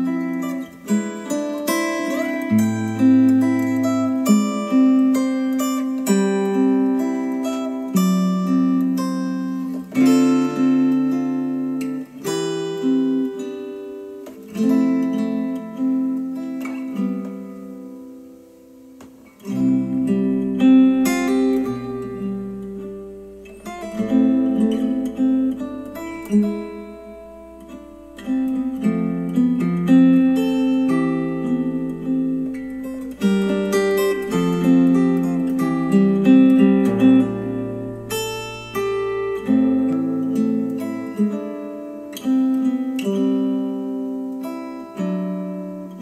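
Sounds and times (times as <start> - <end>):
acoustic guitar music: 0.0 - 46.0.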